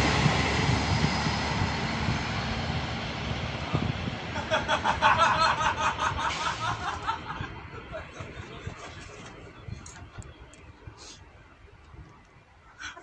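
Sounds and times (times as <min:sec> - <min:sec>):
diesel railcar engine pulsing: 0:00.0 - 0:13.0.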